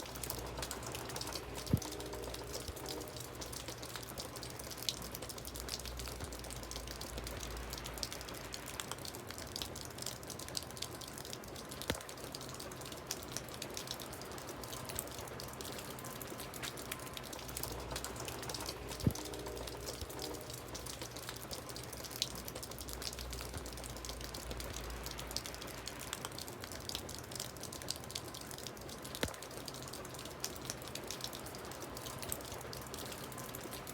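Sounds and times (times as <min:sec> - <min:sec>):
water trickling and dripping: 0:00.0 - 0:33.9.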